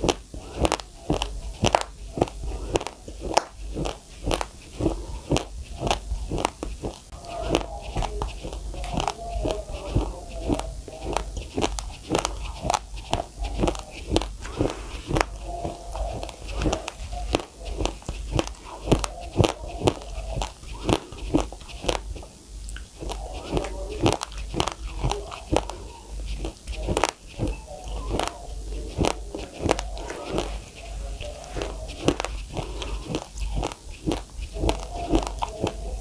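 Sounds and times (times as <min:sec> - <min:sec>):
chewing crunchy uncooked rice: 0:00.0 - 0:36.0.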